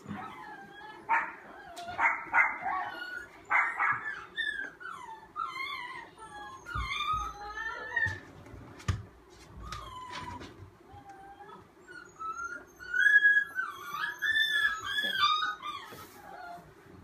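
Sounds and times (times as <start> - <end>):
puppy whining and yelping: 0.0 - 8.7, 9.4 - 17.0.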